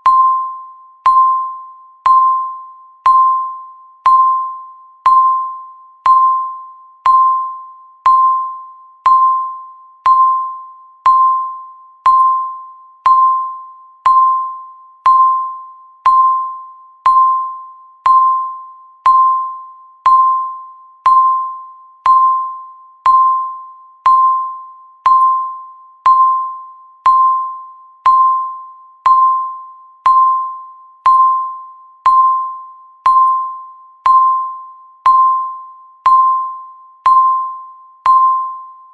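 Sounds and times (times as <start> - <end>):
countdown timer pings: 0.0 - 38.9.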